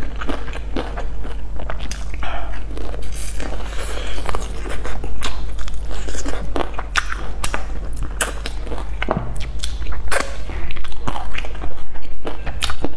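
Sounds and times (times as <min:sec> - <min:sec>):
chewing and biting: 0:00.0 - 0:12.9.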